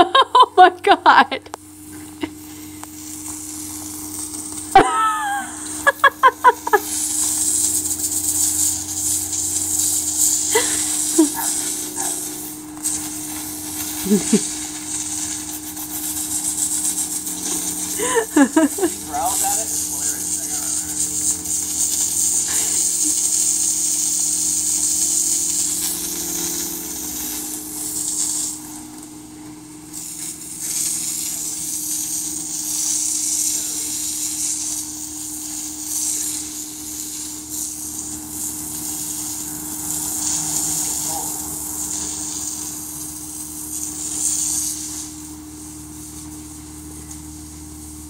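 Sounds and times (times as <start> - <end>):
steady low hum: 0.0 - 48.0
hose spray hissing on paving: 0.1 - 48.0.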